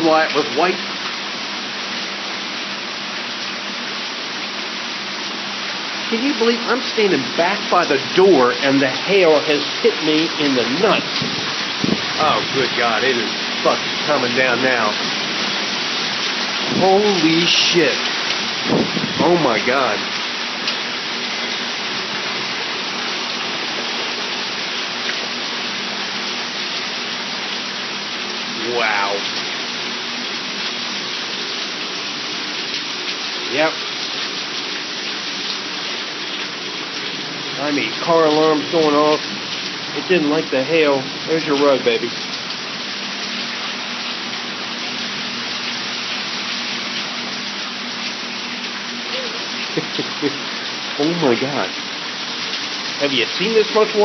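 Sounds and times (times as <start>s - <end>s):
heavy rain and hail: 0.0s - 54.0s.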